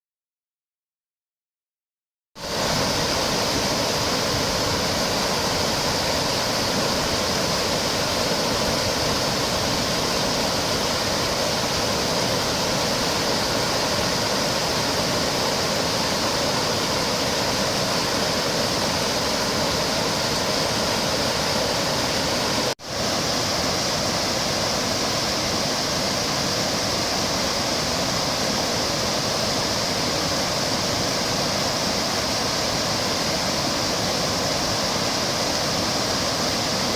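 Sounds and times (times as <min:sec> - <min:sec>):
waterfall rushing over rock: 0:02.4 - 0:36.9.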